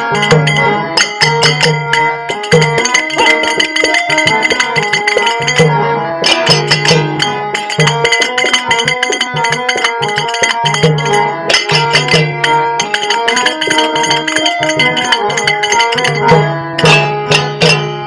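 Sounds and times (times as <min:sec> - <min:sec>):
drums playing a quick rhythm: 0:00.0 - 0:18.0
held melody notes: 0:00.0 - 0:18.0.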